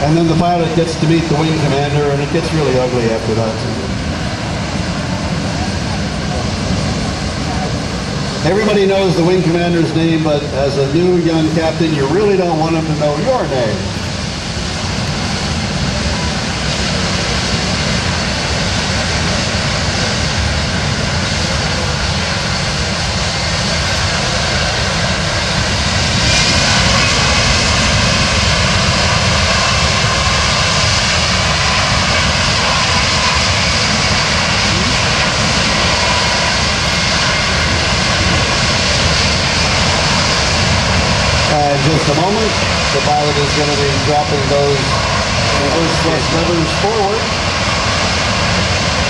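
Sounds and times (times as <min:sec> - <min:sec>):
loud jet engine roar: 0:00.0 - 0:49.0.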